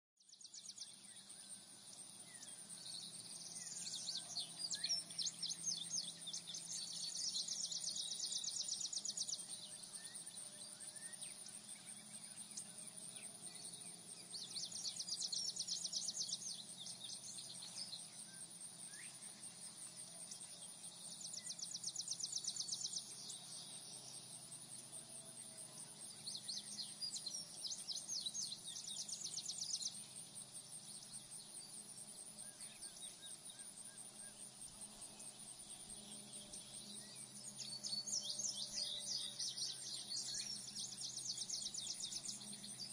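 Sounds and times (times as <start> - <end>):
faint bird chirps: 0.2 - 42.9.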